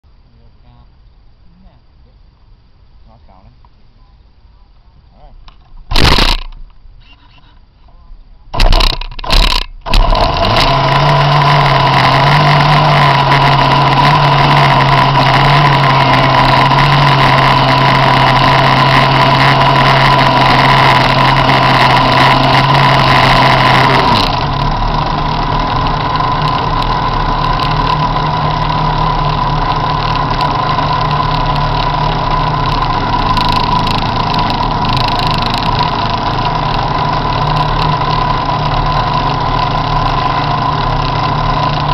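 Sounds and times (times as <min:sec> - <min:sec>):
engine starting bursts: 0:05.9 - 0:06.6, 0:08.5 - 0:41.9
two-stroke boat engine idling: 0:05.9 - 0:06.6, 0:08.5 - 0:41.9.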